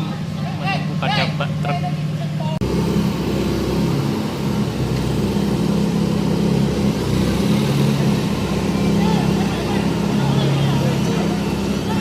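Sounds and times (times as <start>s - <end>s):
diesel excavator engine droning: 0.0s - 12.0s.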